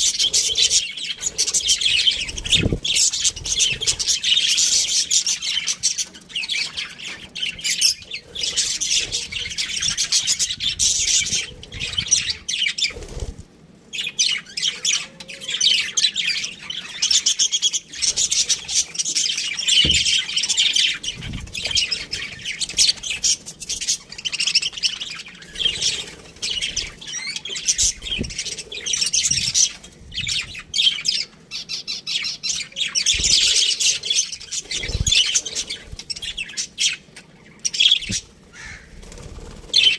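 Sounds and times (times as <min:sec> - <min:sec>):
budgerigars chirping and warbling: 0:00.0 - 0:13.3, 0:14.0 - 0:39.9.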